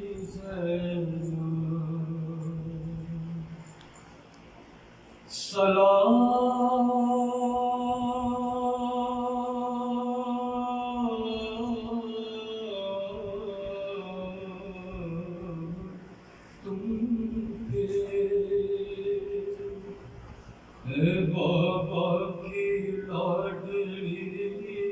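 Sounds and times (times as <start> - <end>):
man chanting: 0.0 - 3.6, 5.3 - 16.0, 16.6 - 20.0, 20.8 - 24.9.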